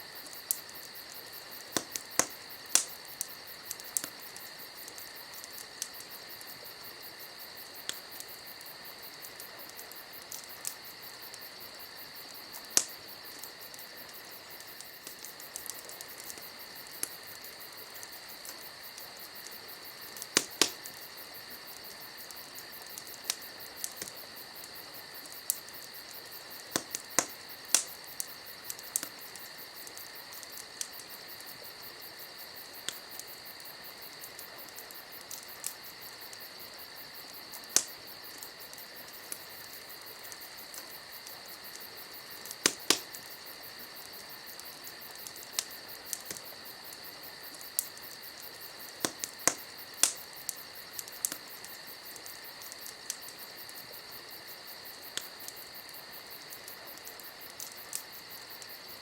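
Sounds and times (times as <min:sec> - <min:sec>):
campfire crackling: 0:00.0 - 0:59.0
crickets chirping: 0:00.0 - 0:59.0
sharp pops of fire: 0:00.1 - 0:58.8.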